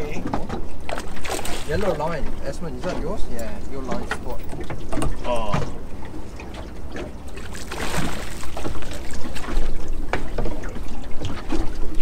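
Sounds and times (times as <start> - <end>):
water splashing against boat: 0.0 - 12.0.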